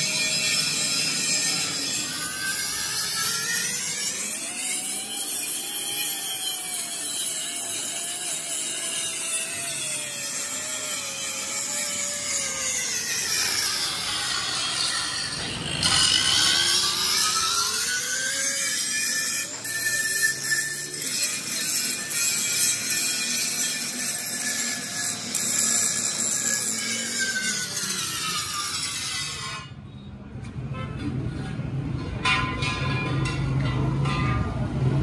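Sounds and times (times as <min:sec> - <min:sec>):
angle grinder grinding metal: 0:00.0 - 0:29.8.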